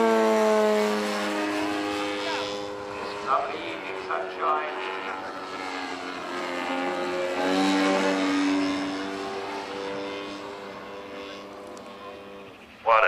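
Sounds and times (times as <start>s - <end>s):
model aircraft engine flying past: 0.0s - 13.0s.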